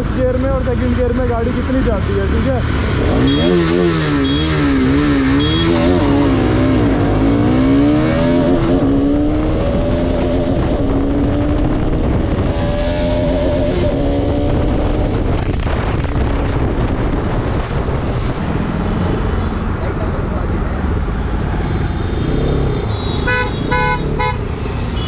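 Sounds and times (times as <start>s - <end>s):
motorcycle engines accelerating: 0.0s - 25.0s.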